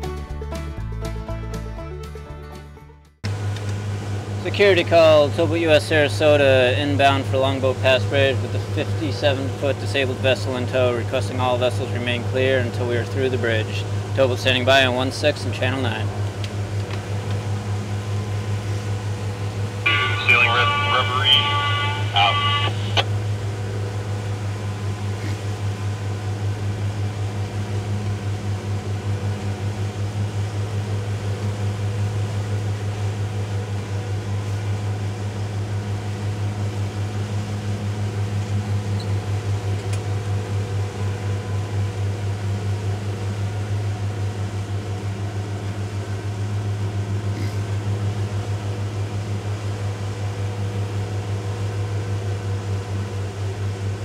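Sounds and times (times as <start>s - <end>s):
outboard motors droning: 3.2s - 54.0s.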